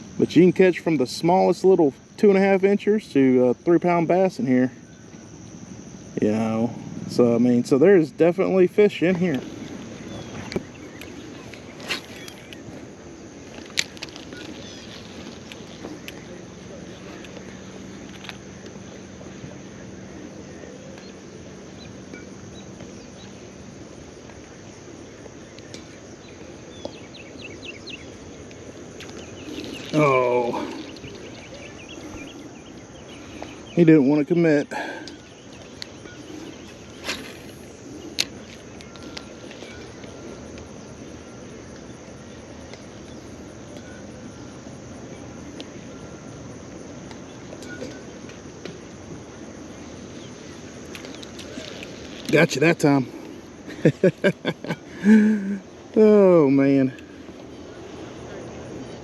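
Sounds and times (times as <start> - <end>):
insects trilling: 0.0 - 59.0
low steady hum: 0.0 - 59.0.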